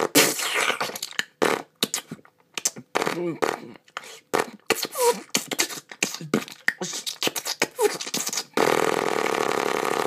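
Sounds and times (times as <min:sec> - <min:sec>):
mouth pops and clicks: 0:00.0 - 0:10.0.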